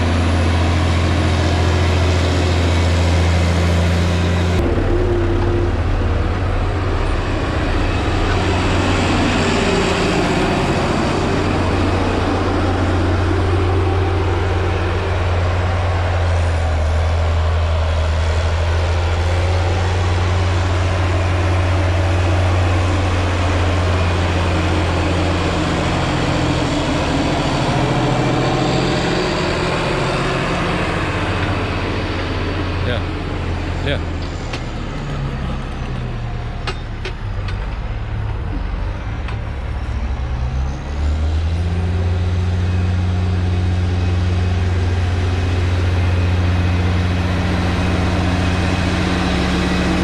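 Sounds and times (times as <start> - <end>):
tractor engine droning: 0.0 - 50.0.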